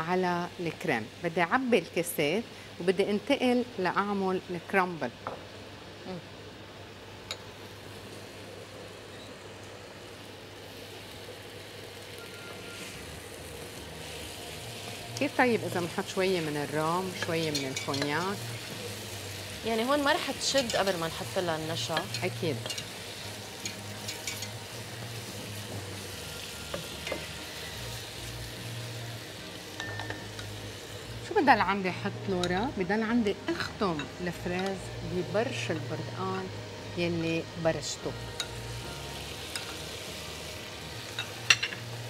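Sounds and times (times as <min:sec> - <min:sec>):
fruit sizzling in a pan: 0:00.0 - 0:42.0.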